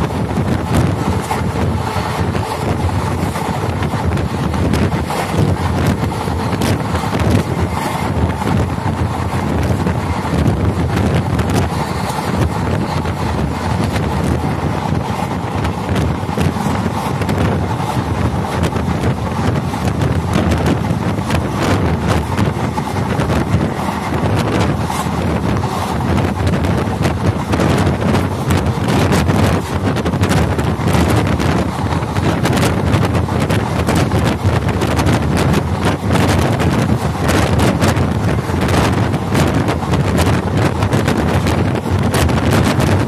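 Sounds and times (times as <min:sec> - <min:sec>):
train wheels rumbling on track: 0:00.0 - 0:43.0
wind buffeting microphone: 0:00.0 - 0:43.0.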